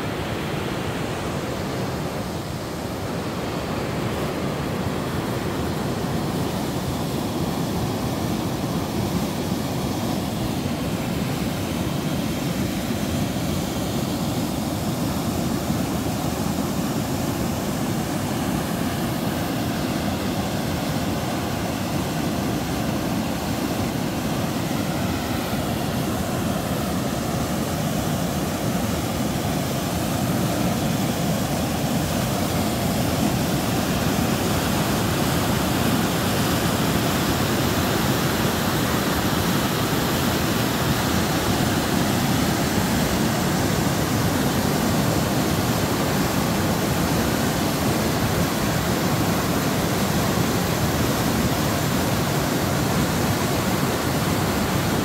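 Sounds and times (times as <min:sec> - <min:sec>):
whitewater rushing over rock: 0:00.0 - 0:55.0.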